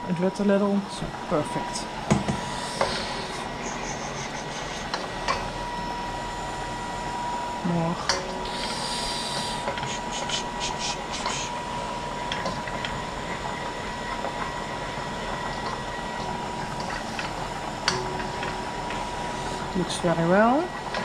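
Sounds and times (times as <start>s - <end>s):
faint constant whine: 0.0s - 21.0s
steady hum and hiss: 0.0s - 21.0s.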